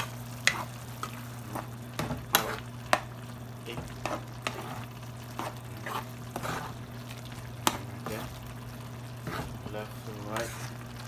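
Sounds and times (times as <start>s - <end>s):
fork scraping frying pan: 0.0s - 10.8s
food sizzling: 0.0s - 11.0s.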